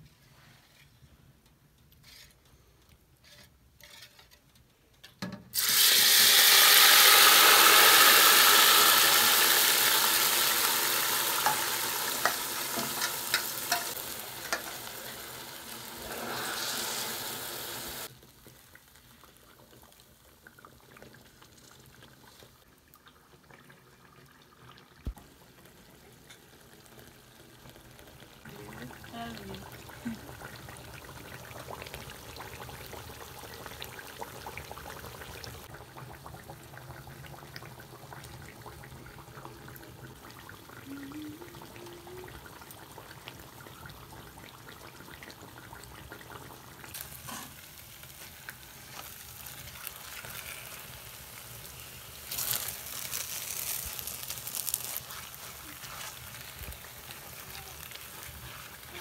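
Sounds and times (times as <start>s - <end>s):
batter sizzling in hot oil: 5.5s - 59.0s.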